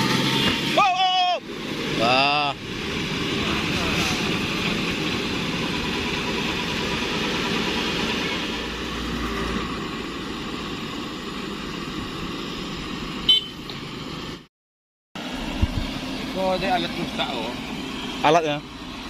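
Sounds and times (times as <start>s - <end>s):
truck engine running: 0.0s - 14.5s, 15.2s - 19.0s.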